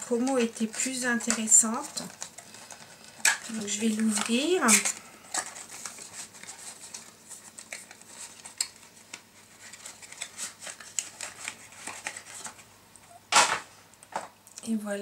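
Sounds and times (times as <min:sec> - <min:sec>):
packaging rustling: 0:00.0 - 0:12.7.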